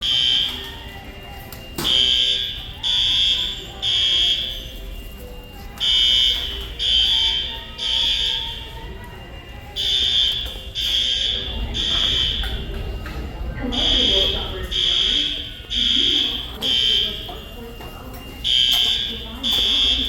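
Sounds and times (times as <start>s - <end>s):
fire alarm horn blasts: 0.0s - 20.0s.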